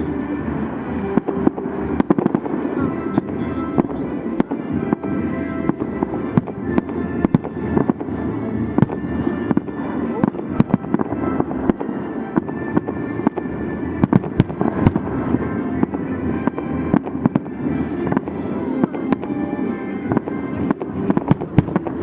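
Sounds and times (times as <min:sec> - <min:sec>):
fireworks bangs and cracks: 0:00.6 - 0:19.5, 0:20.1 - 0:22.0.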